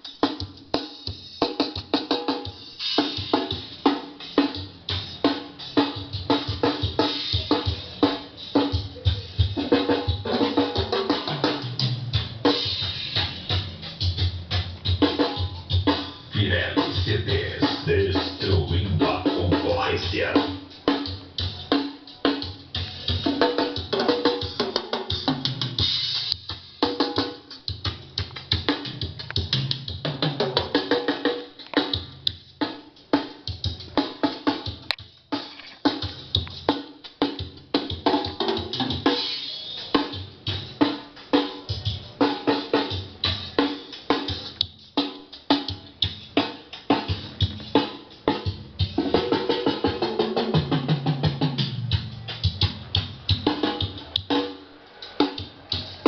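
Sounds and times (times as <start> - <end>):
music with busy drum beat: 0.0 - 56.0.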